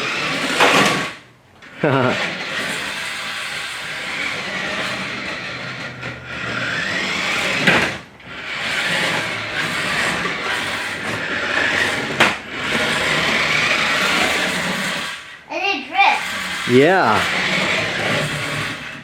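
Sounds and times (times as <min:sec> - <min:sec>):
toy car electric motor whining: 0:00.0 - 0:15.4, 0:16.0 - 0:19.0.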